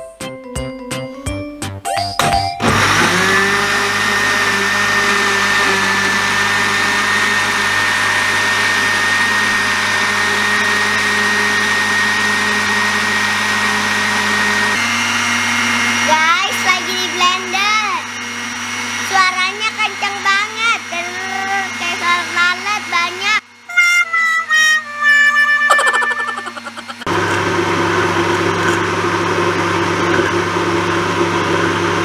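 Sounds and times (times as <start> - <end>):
blender motor whining: 2.6 - 32.0.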